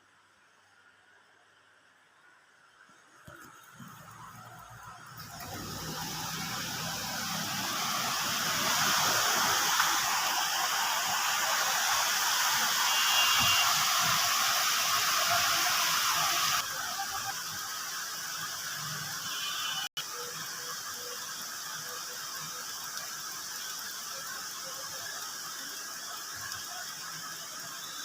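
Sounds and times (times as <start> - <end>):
steady rain falling: 0.2 - 28.0.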